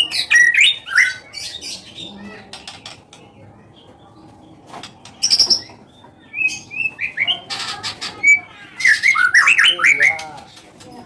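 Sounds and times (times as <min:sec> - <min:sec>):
bird singing rasping and whistling: 0:00.0 - 0:10.7.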